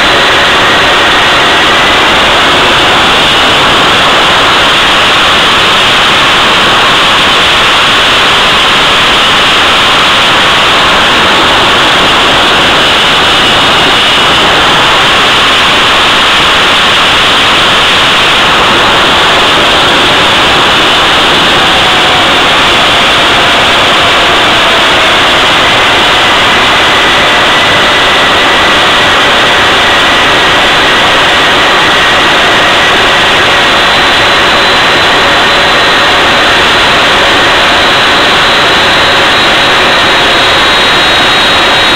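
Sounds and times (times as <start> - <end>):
jet engine roaring: 0.0 - 41.9.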